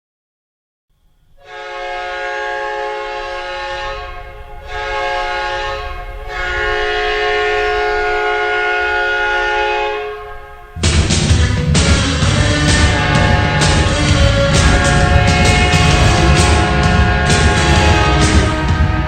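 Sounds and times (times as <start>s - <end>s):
goal horn blasts: 1.4s - 19.0s.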